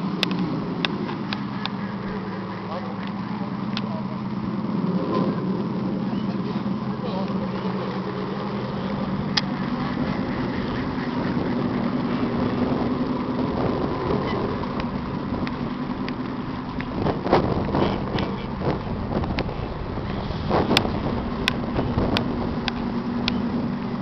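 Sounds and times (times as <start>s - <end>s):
electronic diesel engine drone: 0.0s - 24.0s.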